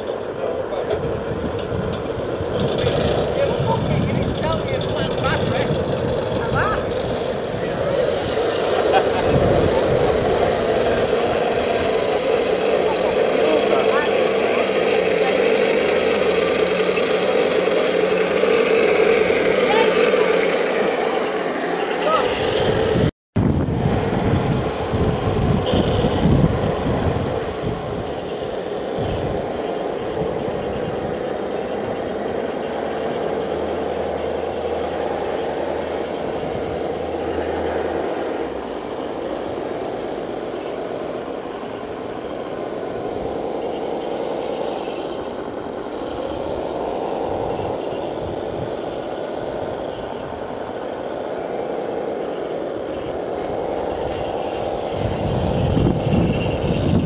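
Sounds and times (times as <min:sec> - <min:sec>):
model tank motors whining: 0:00.0 - 0:57.0.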